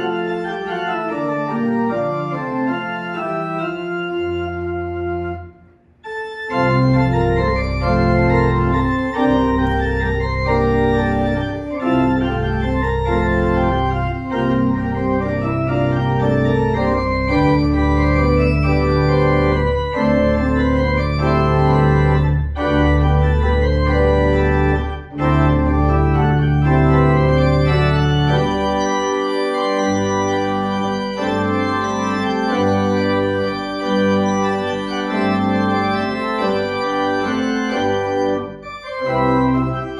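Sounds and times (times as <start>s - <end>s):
deep organ pedal bass: 0.0s - 39.9s
pipe organ chords: 0.0s - 39.9s.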